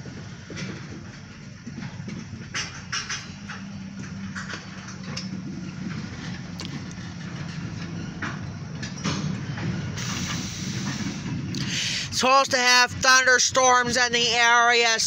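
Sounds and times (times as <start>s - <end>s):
muffled freight train rumble: 0.0s - 15.0s
train wheels clicking: 0.0s - 15.0s.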